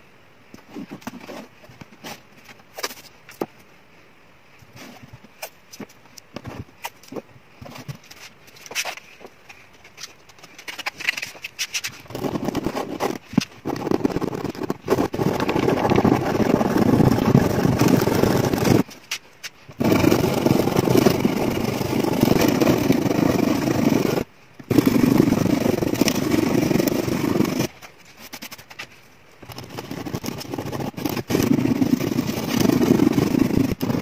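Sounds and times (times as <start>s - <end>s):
scraping on bare wood: 4.7s - 34.0s.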